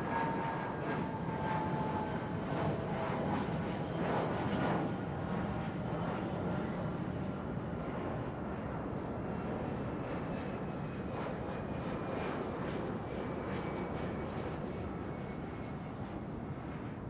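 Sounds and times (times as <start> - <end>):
jet engine rumble and whine: 0.0 - 17.0.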